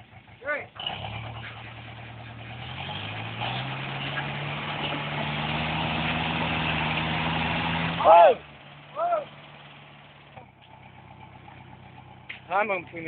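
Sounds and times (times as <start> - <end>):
tractor engine revving up: 0.0 - 13.0.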